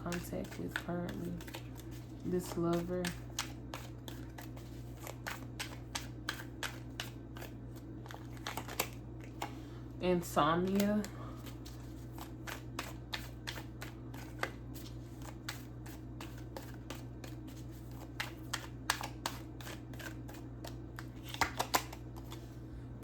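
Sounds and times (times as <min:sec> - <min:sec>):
cards shuffled by hand: 0:00.0 - 0:09.6, 0:10.6 - 0:22.6
steady low hum: 0:00.0 - 0:23.0.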